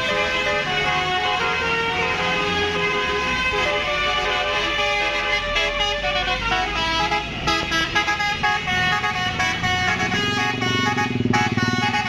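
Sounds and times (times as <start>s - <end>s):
bus horns playing a melody: 0.0s - 12.0s.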